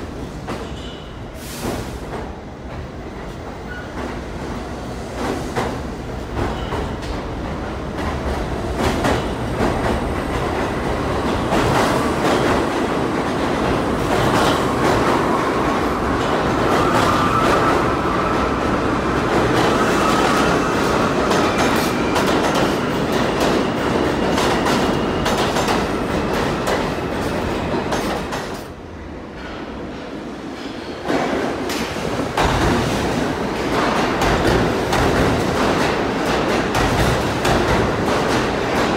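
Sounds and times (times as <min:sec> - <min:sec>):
subway wheels clicking over rail joints: 0:01.6 - 0:17.8, 0:19.1 - 0:28.7, 0:29.3 - 0:38.9.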